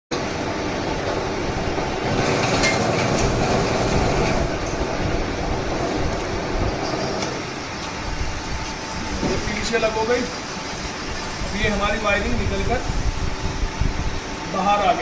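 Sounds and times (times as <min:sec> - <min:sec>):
wire stripping machine churning: 0:00.2 - 0:15.0.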